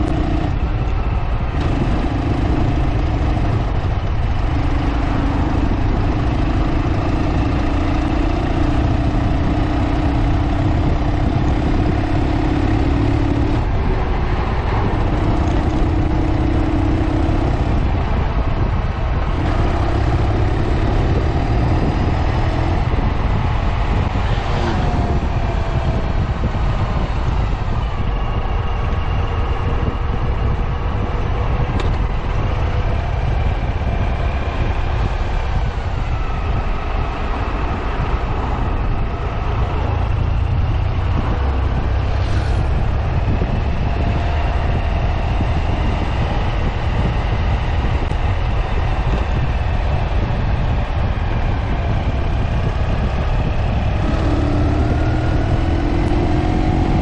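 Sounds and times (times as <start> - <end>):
motorcycle engine running: 0.0 - 57.0
wind and road noise rumble: 0.0 - 57.0.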